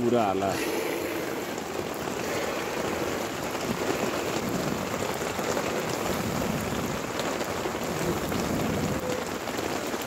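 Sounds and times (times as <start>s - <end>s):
heavy rain on tarp tent: 0.0s - 10.0s.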